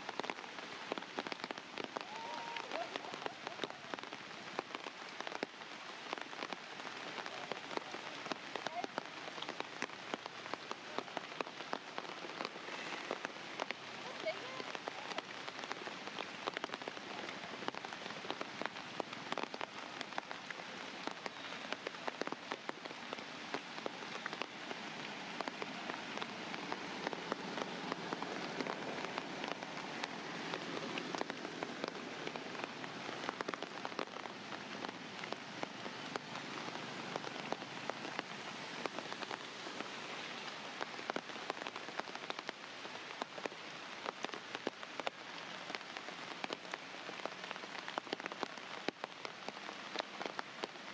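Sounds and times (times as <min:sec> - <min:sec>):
raindrops ticking on a surface: 0:00.0 - 0:50.9.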